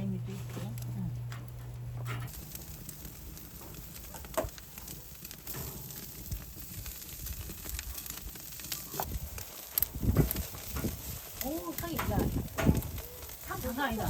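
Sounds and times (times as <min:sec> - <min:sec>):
crackles and small clicks: 0:00.7 - 0:14.0
food sizzling: 0:01.9 - 0:14.0.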